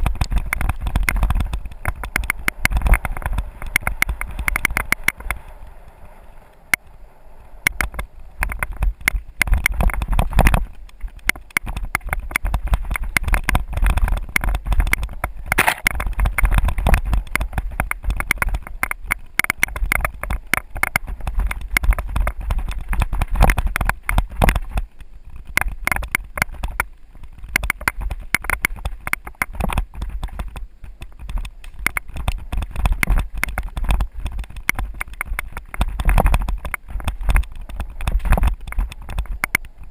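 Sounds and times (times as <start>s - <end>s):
mountain bike rattling: 0.0s - 39.9s.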